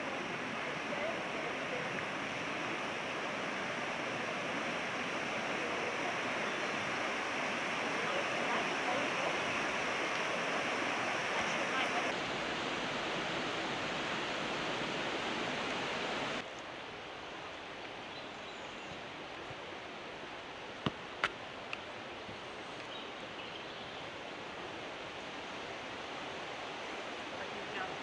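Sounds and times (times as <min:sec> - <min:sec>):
falling water rushing: 0:00.0 - 0:22.4, 0:24.1 - 0:28.0.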